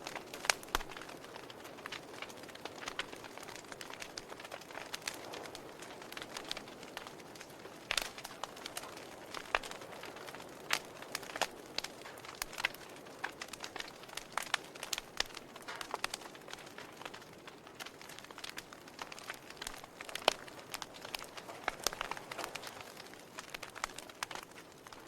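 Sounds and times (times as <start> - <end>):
soft steady hiss: 0.0 - 25.0
wood fire crackling: 0.0 - 25.0.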